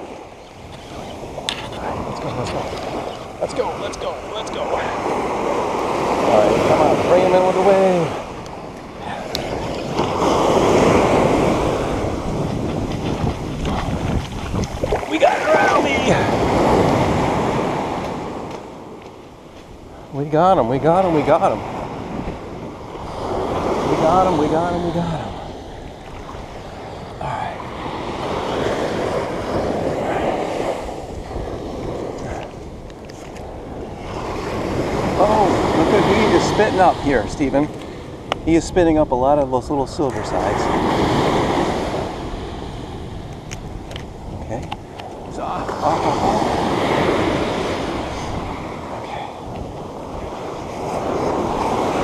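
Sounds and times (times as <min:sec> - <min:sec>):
surf breaking on a beach: 0:00.0 - 0:52.0
wind buffeting microphone: 0:00.0 - 0:52.0.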